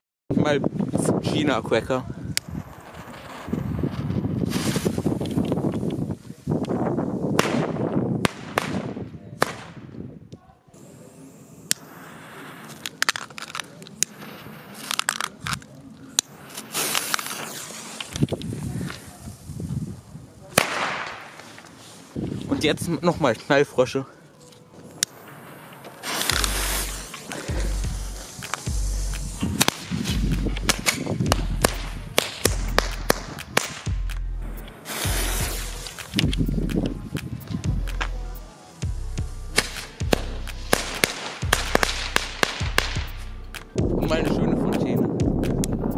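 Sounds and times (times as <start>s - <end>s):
firecrackers cracking and popping: 2.3s - 10.1s, 11.6s - 22.5s, 24.7s - 38.9s, 39.5s - 45.9s.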